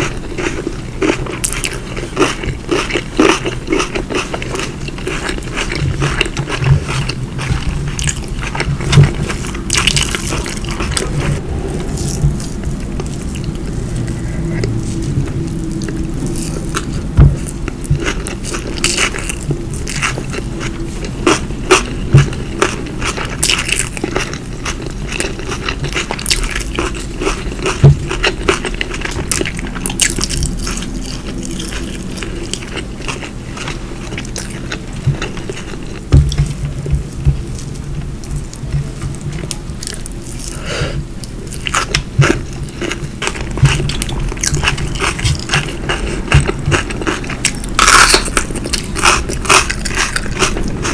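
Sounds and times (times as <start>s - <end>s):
chewing and biting: 0.0s - 40.6s, 41.2s - 50.9s
steady low hum: 0.0s - 50.9s.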